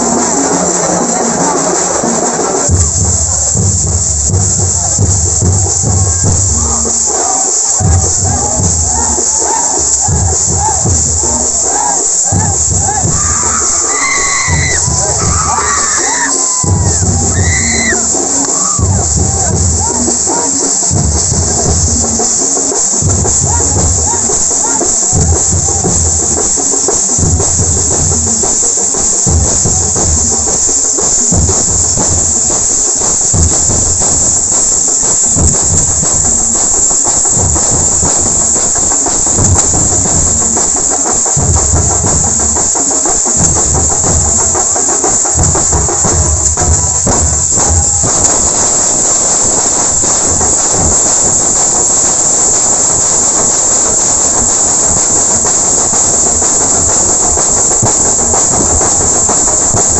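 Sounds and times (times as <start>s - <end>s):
drums beating heavily: 0.0s - 59.9s.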